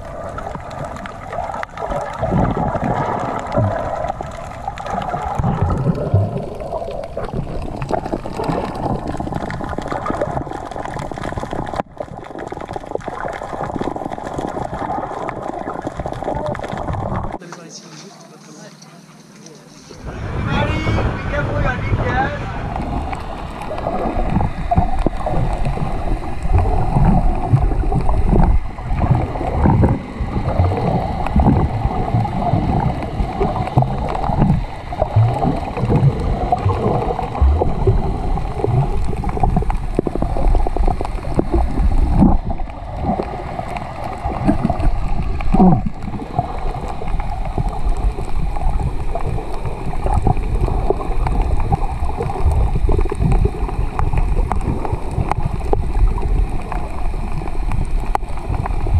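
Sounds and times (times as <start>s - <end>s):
muffled underwater sloshing: 0.0s - 58.9s.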